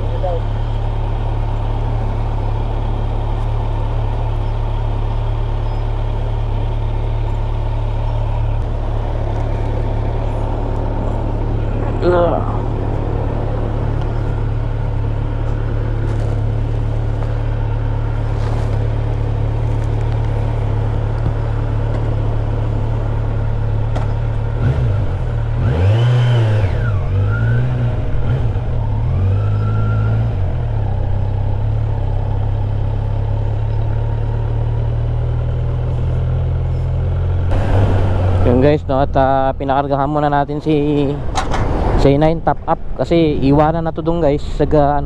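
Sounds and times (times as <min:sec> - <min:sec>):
motorcycle engine revving: 0:00.0 - 0:39.2.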